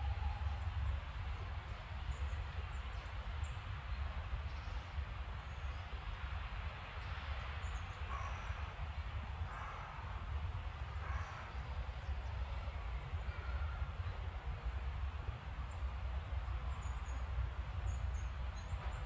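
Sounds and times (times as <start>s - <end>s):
low rumble and hiss outdoors: 0.0s - 19.0s.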